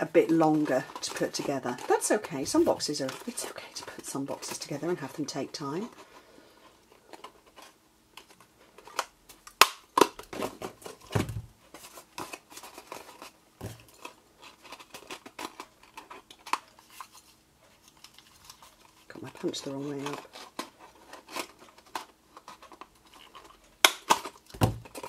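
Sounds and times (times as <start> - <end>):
card box rustling: 0.0 - 9.0, 10.0 - 25.0.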